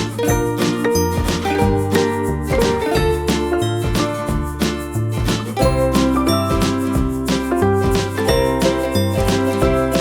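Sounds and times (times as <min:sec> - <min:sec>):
bright tinkling music with beat: 0:00.0 - 0:10.0.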